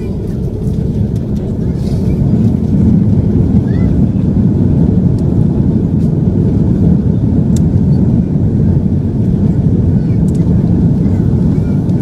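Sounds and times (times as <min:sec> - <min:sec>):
airliner engine rumble in cabin: 0:00.0 - 0:12.0.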